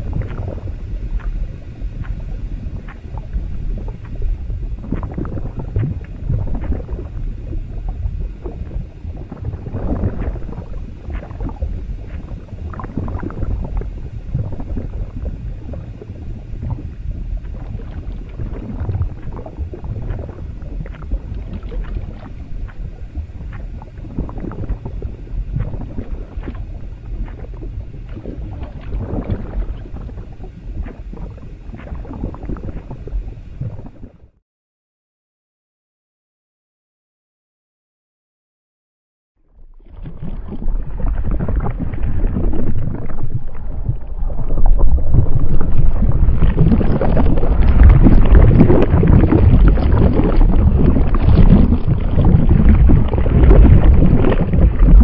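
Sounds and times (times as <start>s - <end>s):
sloshing liquid: 0.0s - 34.3s, 39.6s - 55.0s
low rumble: 0.0s - 34.4s, 39.5s - 55.0s
stomach gurgling: 0.0s - 34.4s, 39.5s - 55.0s.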